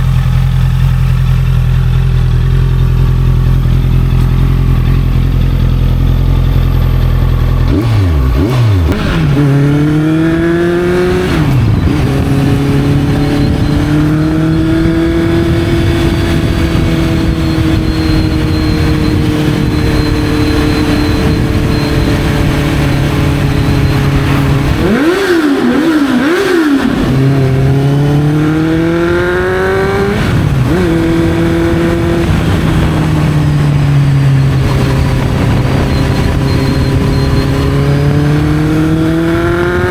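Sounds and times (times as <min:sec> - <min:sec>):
motorcycle engine accelerating: 0:00.0 - 0:39.9
motorcycle throttle blips: 0:00.0 - 0:39.9.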